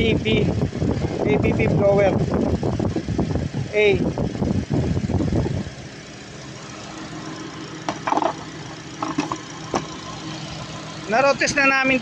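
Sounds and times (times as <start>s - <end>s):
car engine idling: 0.0s - 12.0s
loud rough noise: 0.0s - 12.0s.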